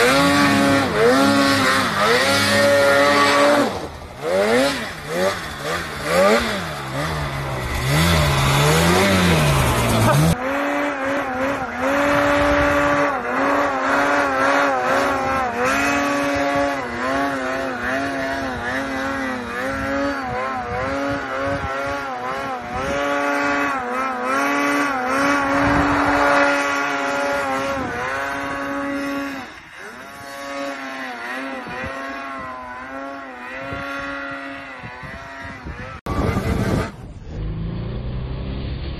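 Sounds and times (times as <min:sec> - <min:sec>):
snowmobile engine at high revs: 0:00.0 - 0:38.9
snowmobile engine revving: 0:00.0 - 0:38.9.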